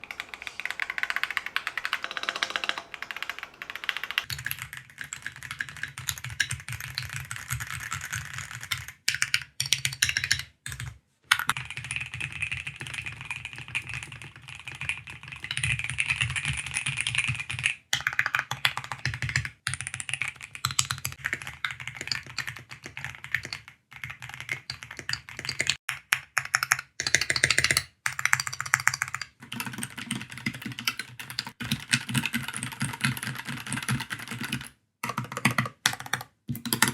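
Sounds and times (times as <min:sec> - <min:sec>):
fast mechanical keyboard typing: 0:00.0 - 0:36.9.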